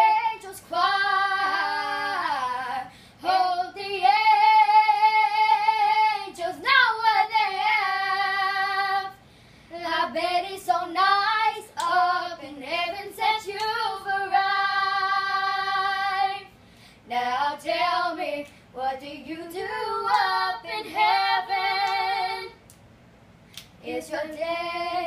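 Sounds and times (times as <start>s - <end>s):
girls singing together: 0.0s - 22.7s, 23.8s - 25.0s.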